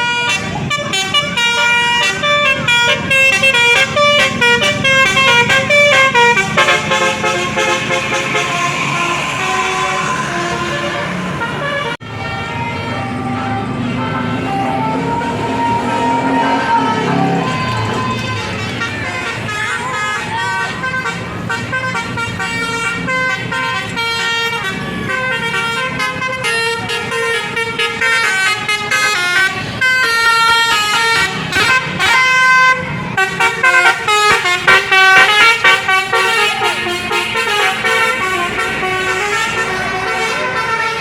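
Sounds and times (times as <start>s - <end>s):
bus musical horn playing a tune: 0.0s - 41.0s.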